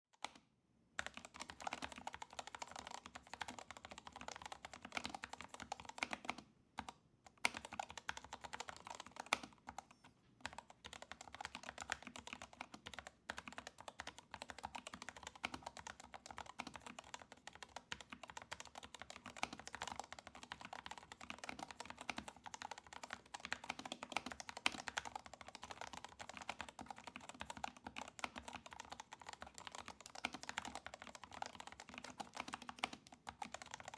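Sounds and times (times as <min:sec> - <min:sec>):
typing on mechanical keyboard: 0:01.0 - 0:33.9.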